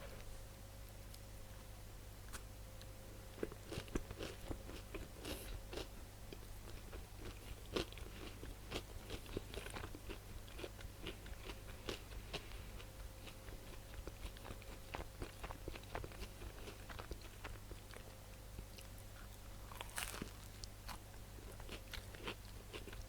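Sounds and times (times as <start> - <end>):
faint low hum: 0.0 - 23.0
person chewing crunchy food: 3.3 - 23.0.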